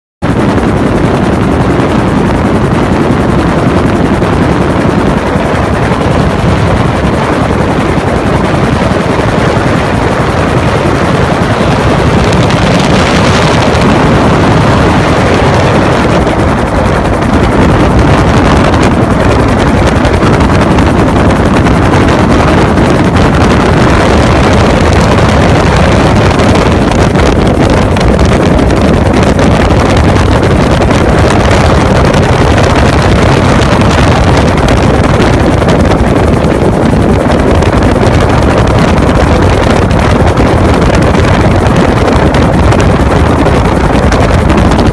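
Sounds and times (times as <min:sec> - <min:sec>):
helicopter noise: 0:00.2 - 0:44.9
wind buffeting microphone: 0:00.2 - 0:44.9.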